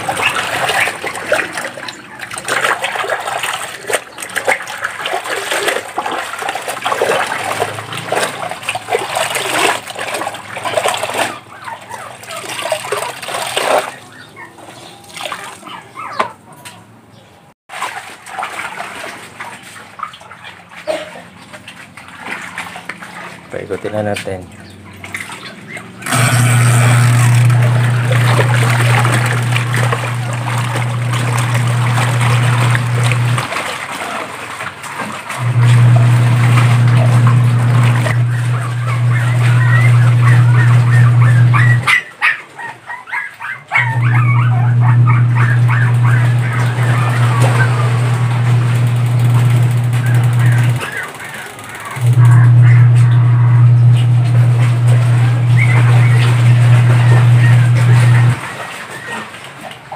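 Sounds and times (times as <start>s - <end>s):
water dripping and trickling: 0.0s - 16.0s, 17.8s - 26.1s, 27.4s - 41.8s, 45.2s - 59.9s
water splashing in basin: 0.0s - 16.9s, 17.7s - 59.9s
washing machine motor hum: 0.0s - 59.9s.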